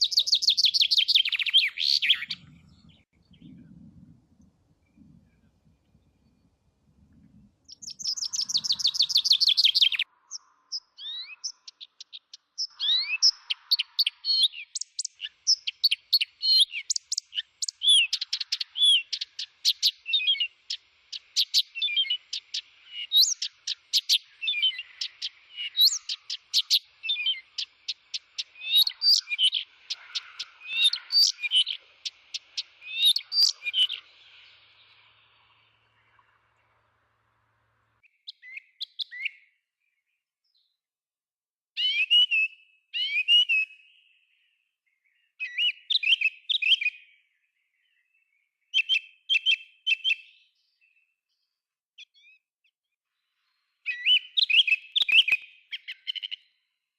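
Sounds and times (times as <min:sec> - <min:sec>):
songbird singing: 0:00.0 - 0:40.8, 0:41.8 - 0:56.9.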